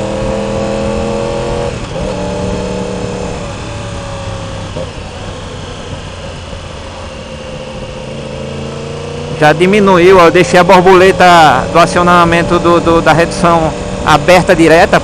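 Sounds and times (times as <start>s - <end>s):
motorcycle exhaust note: 0.0s - 15.0s
wind and road noise: 0.0s - 15.0s.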